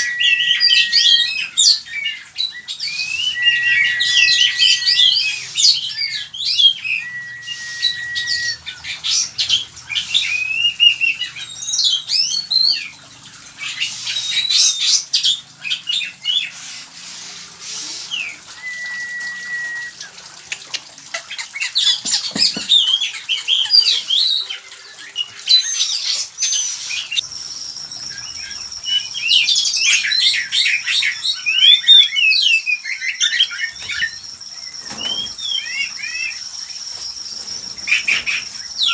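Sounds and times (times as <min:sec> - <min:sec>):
birds singing and calling: 0:00.0 - 0:38.9.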